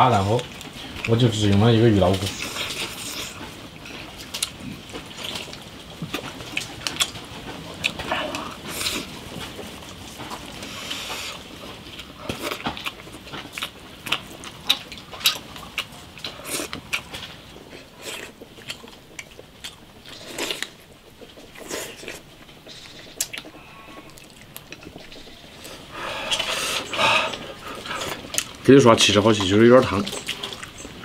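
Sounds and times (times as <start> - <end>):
person chewing: 2.1 - 31.0.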